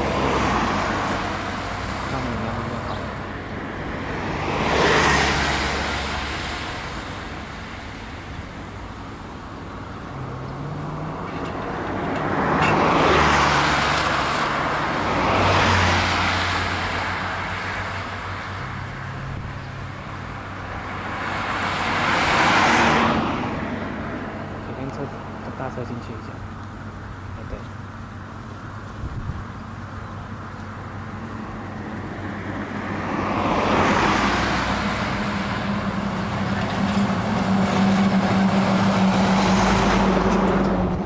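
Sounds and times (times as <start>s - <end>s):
low engine hum: 0.0s - 41.0s
vehicles passing: 0.0s - 41.0s.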